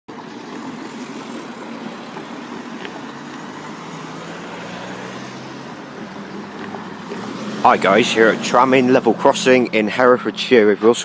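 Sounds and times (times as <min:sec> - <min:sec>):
low engine drone: 0:00.1 - 0:11.0
traffic hum: 0:00.1 - 0:11.0.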